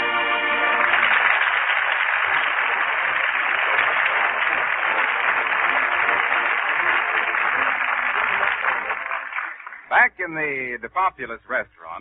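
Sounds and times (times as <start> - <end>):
crowd applauding: 0.0 - 10.1.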